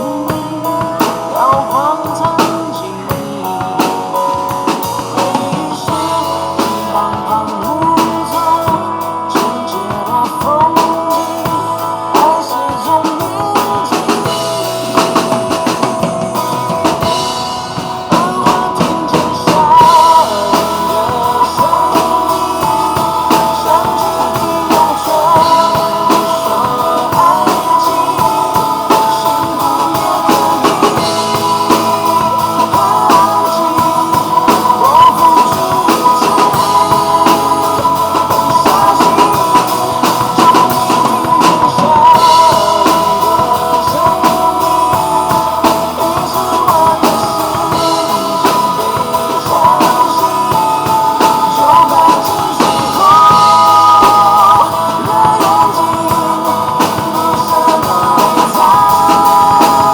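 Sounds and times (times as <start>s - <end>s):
drum kit playing: 0.0s - 59.9s
recorded pop song: 0.0s - 59.9s.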